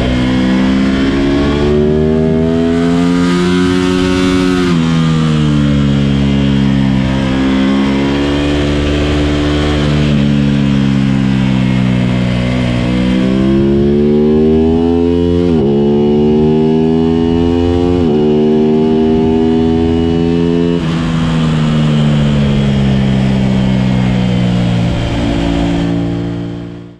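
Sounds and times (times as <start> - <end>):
vehicle engine accelerating: 0.0 - 26.9.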